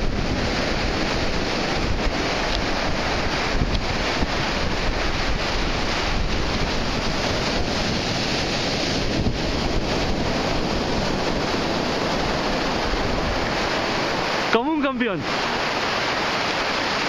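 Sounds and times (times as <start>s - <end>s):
surf washing up beach: 0.0s - 17.0s
wind noise on microphone: 0.0s - 17.0s.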